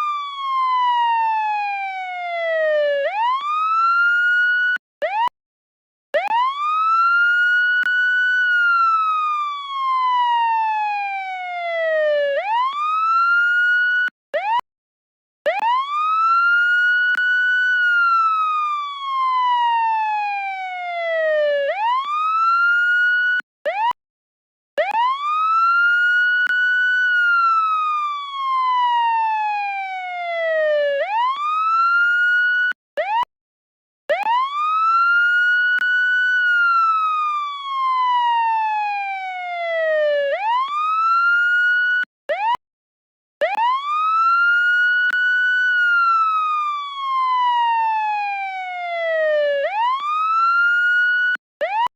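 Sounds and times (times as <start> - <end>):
police siren wailing: 0.0 - 5.3, 6.2 - 14.6, 15.5 - 24.0, 24.8 - 33.3, 34.1 - 42.6, 43.4 - 51.9.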